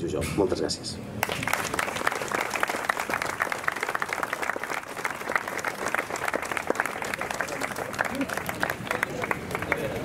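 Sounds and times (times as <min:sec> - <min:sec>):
crowd applauding: 0:01.2 - 0:10.0.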